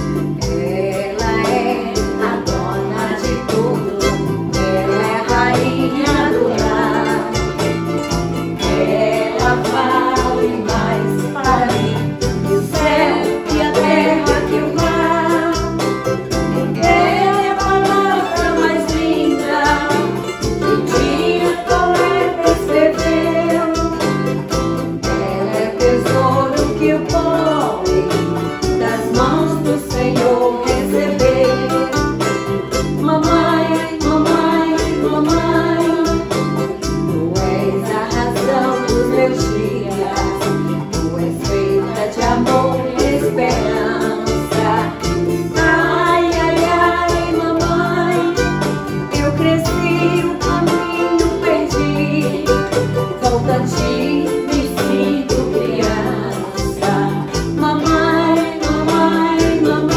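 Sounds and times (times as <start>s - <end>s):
cavaquinho: 0.0s - 59.9s
strummed acoustic guitar: 0.0s - 59.9s
group of women singing: 0.4s - 59.9s.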